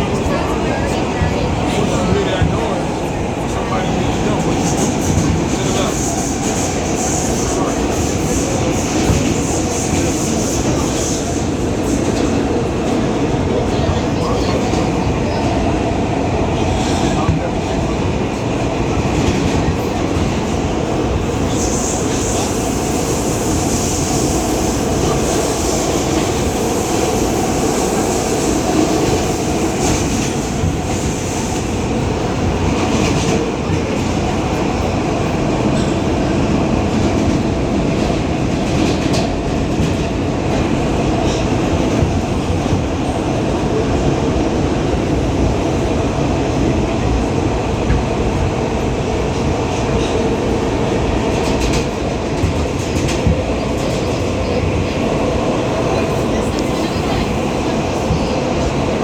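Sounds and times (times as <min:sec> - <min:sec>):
subway wheels rumbling on track: 0:00.0 - 0:59.0.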